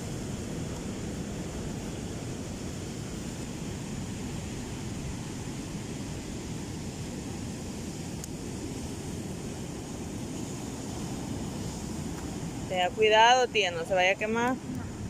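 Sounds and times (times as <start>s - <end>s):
ocean surf on a beach: 0.0s - 15.0s
wind: 0.0s - 15.0s.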